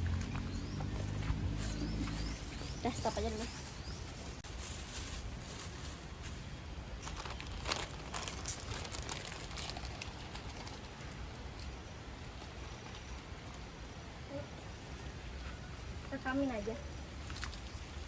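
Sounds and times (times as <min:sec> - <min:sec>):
faint outdoor background noise: 0:00.0 - 0:18.0.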